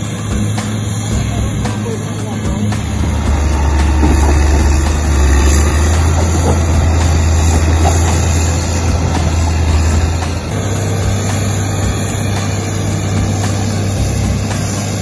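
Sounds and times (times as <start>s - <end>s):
diesel engine deep hum: 0.0s - 15.0s.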